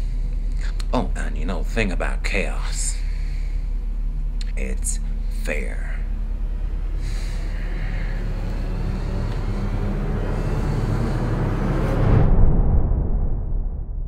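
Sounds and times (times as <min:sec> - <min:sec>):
low noisy rumble: 0:00.0 - 0:14.0.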